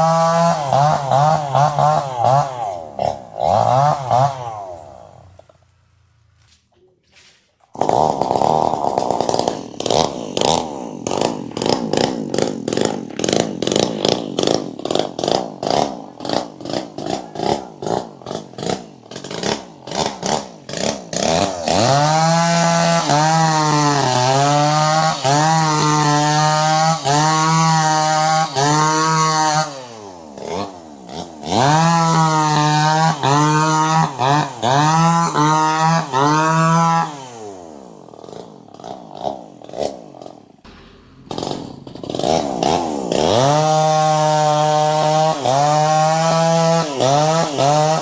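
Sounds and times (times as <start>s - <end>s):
chainsaw engine revving: 0.0s - 6.6s, 7.6s - 48.0s.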